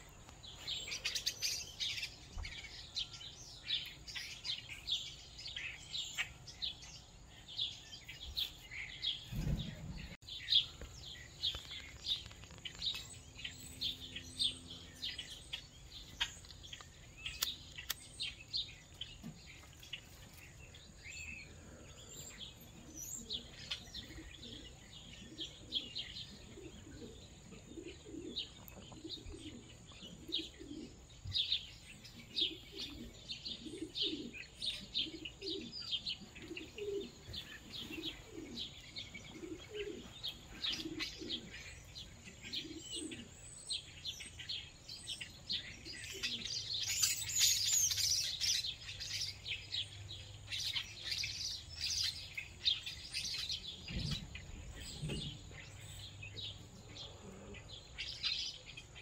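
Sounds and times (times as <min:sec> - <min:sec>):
pigeons cooing: 0:00.0 - 0:59.0
small birds chirping: 0:00.0 - 0:59.0.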